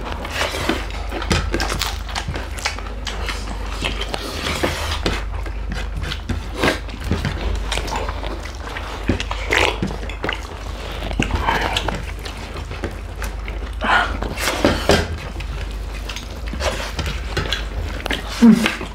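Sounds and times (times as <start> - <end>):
chewing and lip smacks: 0.0 - 18.9
steady low hum: 0.0 - 18.9.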